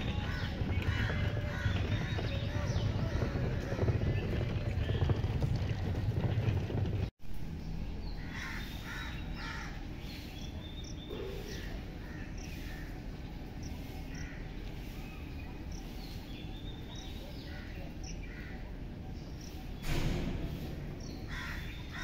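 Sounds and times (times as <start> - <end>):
harsh bird calls: 0.0 - 6.2, 7.6 - 22.0
low background rumble: 0.0 - 22.0.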